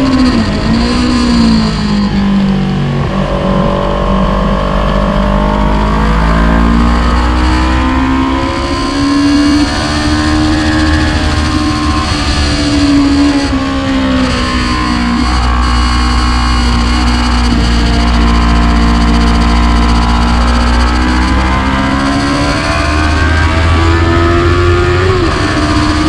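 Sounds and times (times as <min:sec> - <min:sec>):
motorcycle engine at speed: 0:00.0 - 0:26.0.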